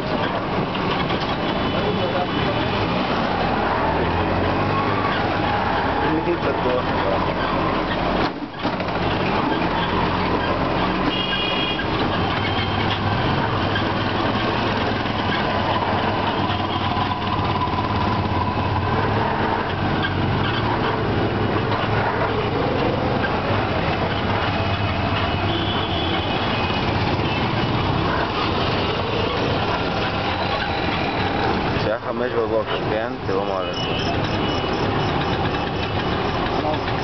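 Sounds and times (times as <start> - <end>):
auto-rickshaw engine running: 0.0 - 37.0.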